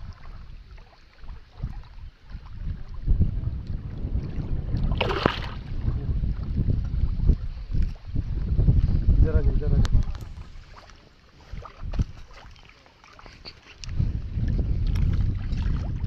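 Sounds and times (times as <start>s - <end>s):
wind buffeting microphone: 0.0s - 12.6s, 13.4s - 16.0s.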